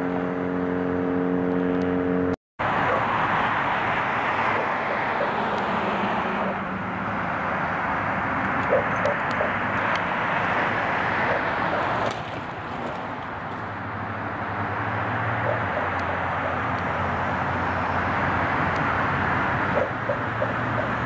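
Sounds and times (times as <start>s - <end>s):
faint engine hum: 0.0s - 21.0s
roadside traffic noise: 0.0s - 21.0s.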